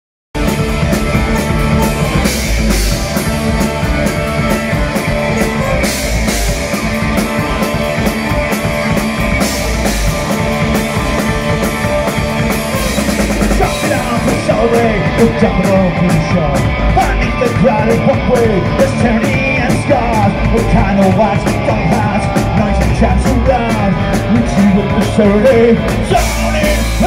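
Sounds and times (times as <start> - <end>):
punk rock band playing: 0.3 - 27.0.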